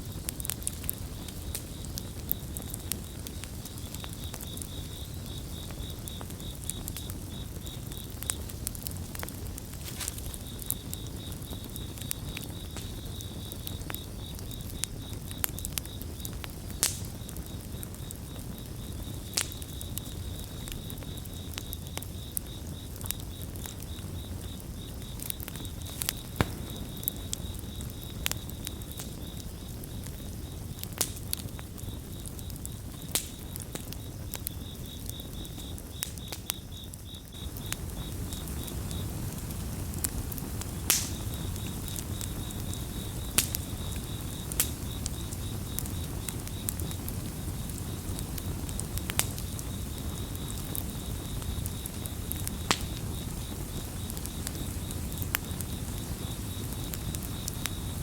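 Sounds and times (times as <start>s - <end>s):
campfire crackling and popping: 0.0s - 58.0s
crickets chirping: 0.0s - 58.0s.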